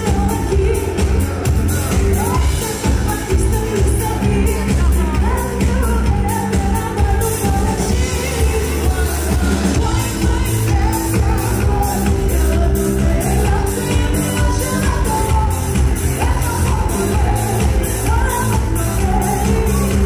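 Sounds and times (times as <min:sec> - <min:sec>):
live band playing pop dance music: 0:00.0 - 0:20.0
woman singing: 0:00.0 - 0:20.0.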